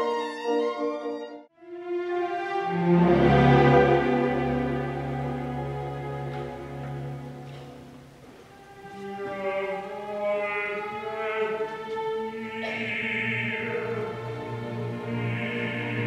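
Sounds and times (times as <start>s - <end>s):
orchestra playing sustained chords: 1.6s - 16.0s.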